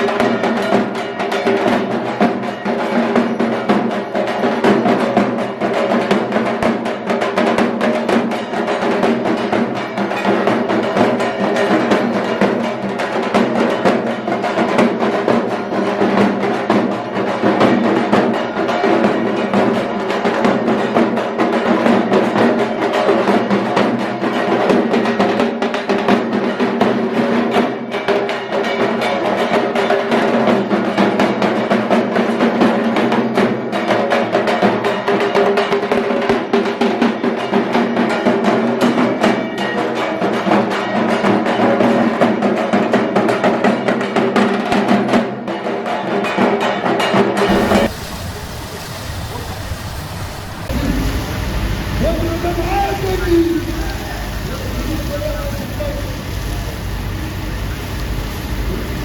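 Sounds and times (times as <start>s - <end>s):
loud drum-driven music: 0.0s - 47.9s.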